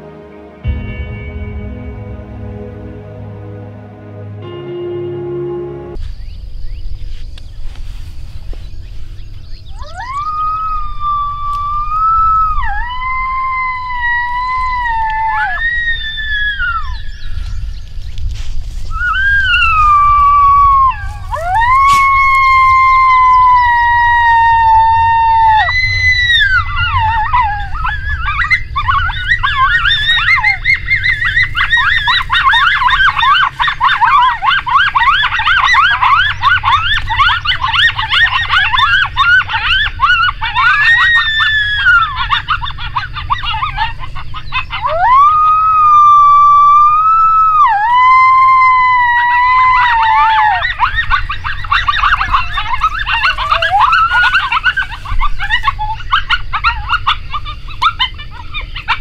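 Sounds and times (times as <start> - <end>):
coyotes yipping: 6.0 - 59.0
coyotes howling: 9.6 - 18.1, 18.7 - 59.0.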